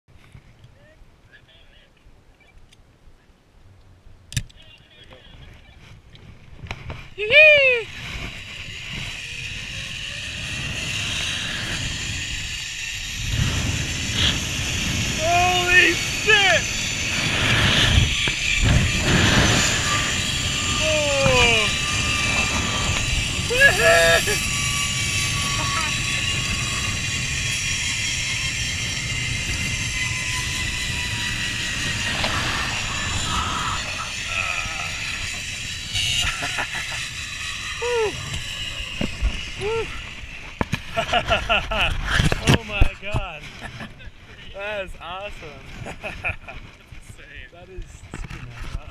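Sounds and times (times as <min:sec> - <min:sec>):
wind rumble on microphone: 0:05.2 - 0:48.9
zipline pulleys whirring: 0:05.5 - 0:47.1.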